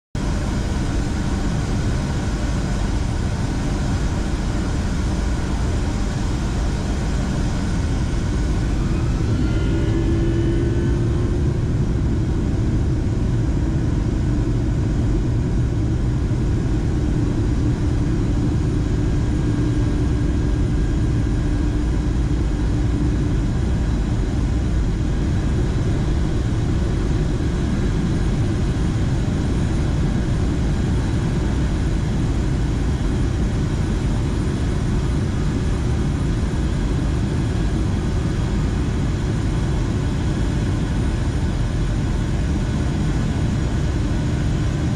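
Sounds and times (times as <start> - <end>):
jet engines roaring at takeoff: 0.2 - 44.9.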